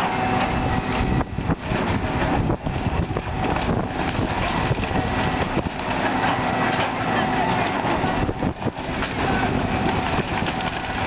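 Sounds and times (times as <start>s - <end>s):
excavator engine running: 0.0s - 11.0s
wind buffeting microphone: 0.2s - 6.2s, 7.8s - 11.0s
debris crunching and clattering: 1.6s - 7.0s, 7.6s - 11.0s.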